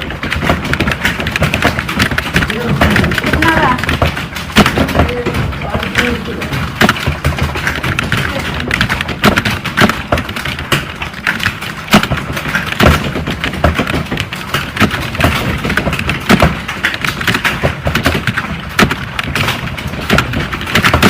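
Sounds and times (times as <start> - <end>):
fast typing on keyboard: 0.0 - 21.0.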